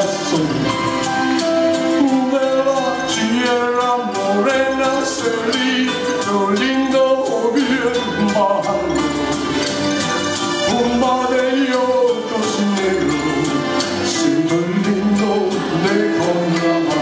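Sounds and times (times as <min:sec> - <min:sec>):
instrumental accompaniment: 0:00.0 - 0:17.0
steady percussive beat: 0:00.0 - 0:17.0
man singing into a microphone: 0:01.9 - 0:09.7, 0:10.7 - 0:17.0.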